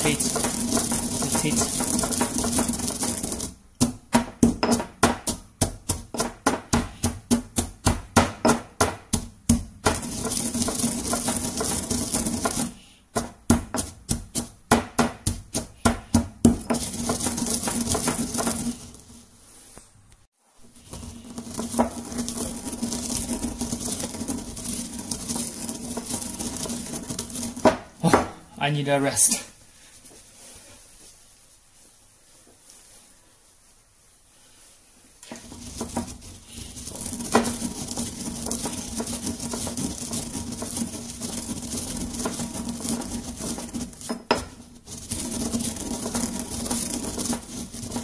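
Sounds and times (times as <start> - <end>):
pestle pounding strikes: 0.0 - 18.8, 21.6 - 28.4, 35.2 - 48.0
pestle grinding in stone mortar: 0.0 - 19.2, 20.6 - 28.6, 35.2 - 48.0.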